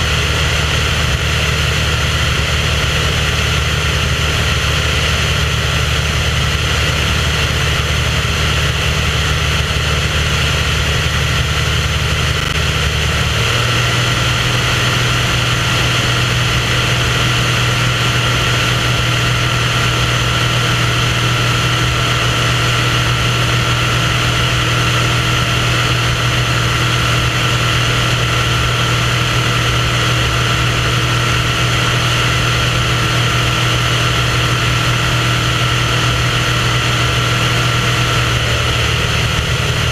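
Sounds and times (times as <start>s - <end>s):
propeller aircraft engine: 0.0s - 39.9s.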